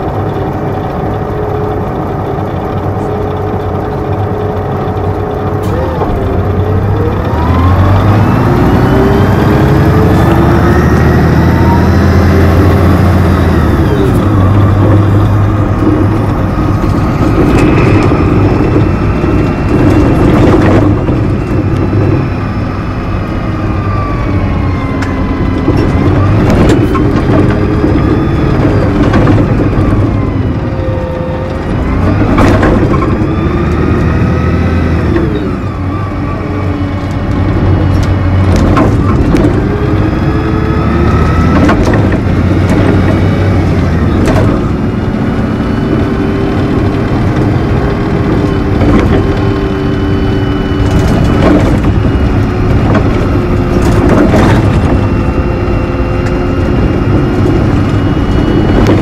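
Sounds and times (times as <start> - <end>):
bus engine and transmission whine: 0.0 - 59.0.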